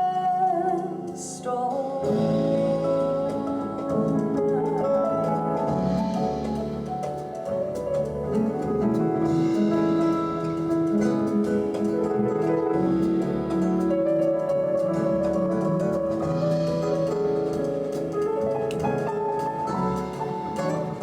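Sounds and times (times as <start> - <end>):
jazz piano: 0.0 - 21.0.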